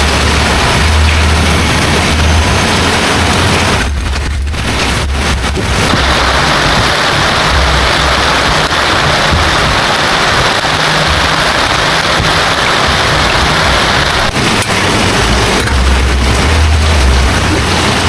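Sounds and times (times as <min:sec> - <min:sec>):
heavy rain pouring: 0:00.0 - 0:18.0
low rumble: 0:00.0 - 0:18.0.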